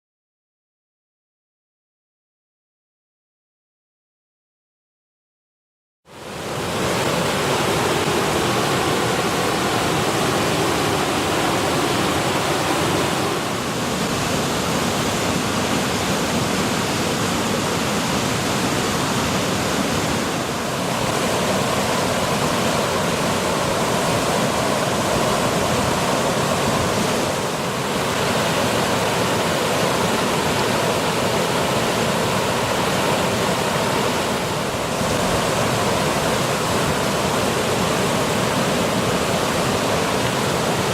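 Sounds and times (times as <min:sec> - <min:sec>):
waterfall rushing over rock: 0:06.1 - 0:40.9.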